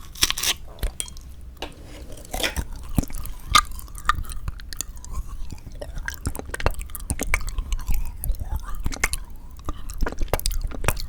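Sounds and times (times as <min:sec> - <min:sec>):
chewing and crunching jelly: 0:00.0 - 0:11.0.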